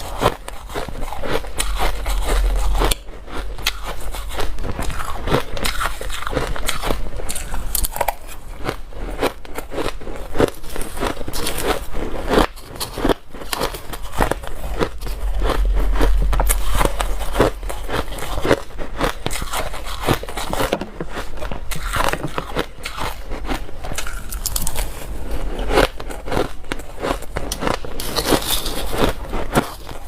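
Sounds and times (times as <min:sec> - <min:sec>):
ice being chewed: 0:00.0 - 0:30.0.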